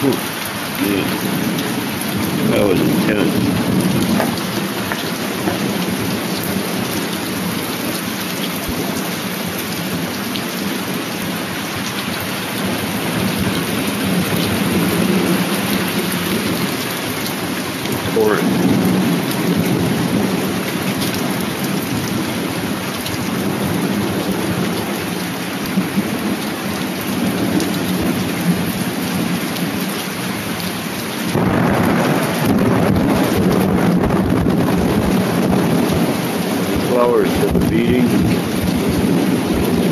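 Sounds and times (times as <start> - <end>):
hail pelting grass and leaves: 0.0 - 39.9
heavy rain: 0.0 - 39.9.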